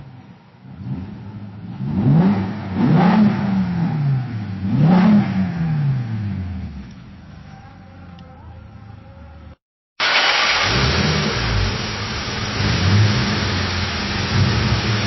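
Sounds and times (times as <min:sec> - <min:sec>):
car engine revving and idling: 0:00.0 - 0:08.2, 0:10.0 - 0:15.0.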